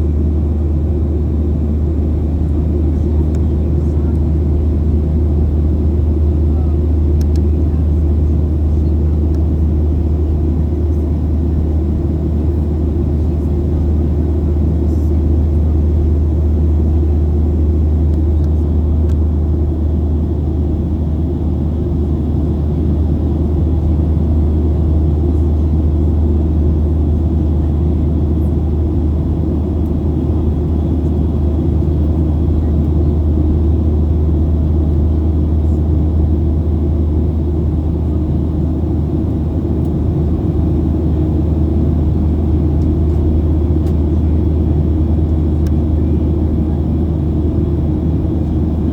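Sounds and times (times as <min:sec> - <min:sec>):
jet engine cabin rumble: 0:00.0 - 0:48.9.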